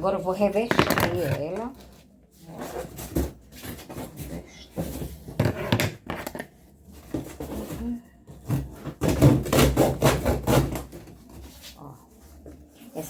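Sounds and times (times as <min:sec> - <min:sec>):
cardboard and paper rustling: 0:00.8 - 0:13.0.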